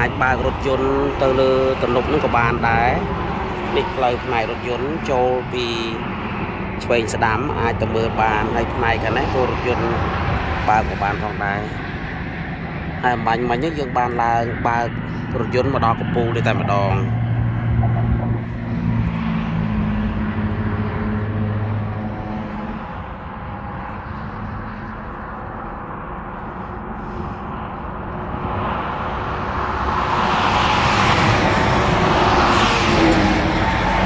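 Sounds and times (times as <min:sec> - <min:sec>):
low engine drone: 0:00.0 - 0:34.0
road traffic passing: 0:00.0 - 0:34.0.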